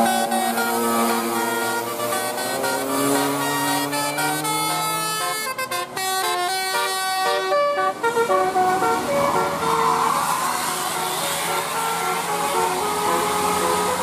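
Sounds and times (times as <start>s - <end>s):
multi-tone bus horn melody: 0.0s - 14.0s.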